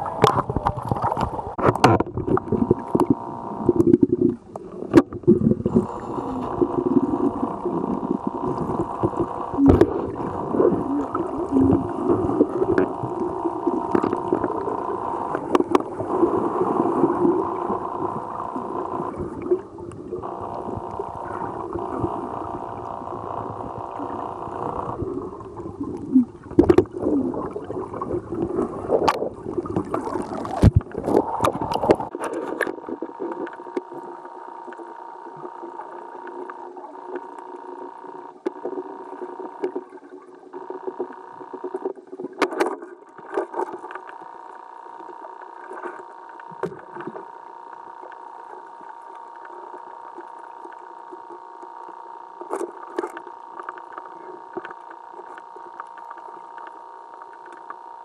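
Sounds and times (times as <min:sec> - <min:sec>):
drone of held tones: 0:00.0 - 0:42.3, 0:43.0 - 0:58.0
gurgling water: 0:00.0 - 0:58.0.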